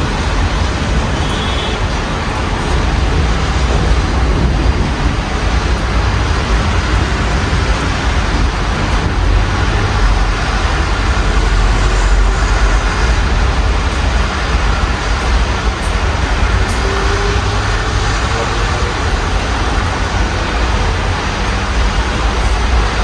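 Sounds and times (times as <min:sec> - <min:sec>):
steady rain: 0:00.0 - 0:23.0
traffic on a wet road: 0:00.0 - 0:23.0.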